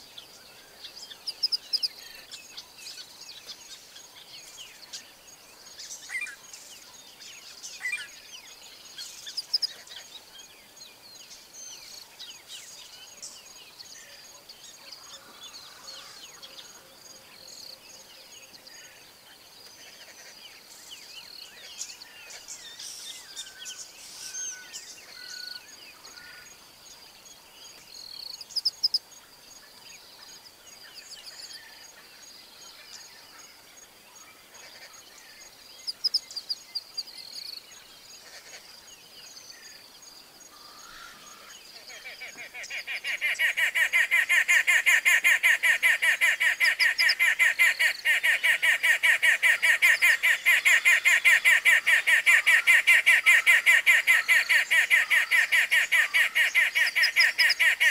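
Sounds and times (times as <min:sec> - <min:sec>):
birds chirping and singing: 0:00.1 - 0:57.9.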